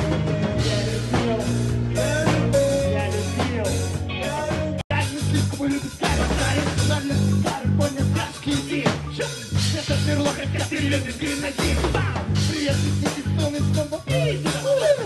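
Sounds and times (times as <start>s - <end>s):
bass guitar low notes: 0.0s - 15.0s
drums: 0.0s - 15.0s
person singing into microphone: 0.4s - 15.0s.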